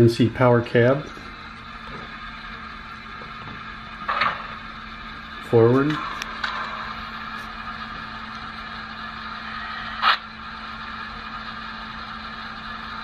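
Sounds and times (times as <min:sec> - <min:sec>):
model locomotive hiss and hum: 0:00.0 - 0:13.0.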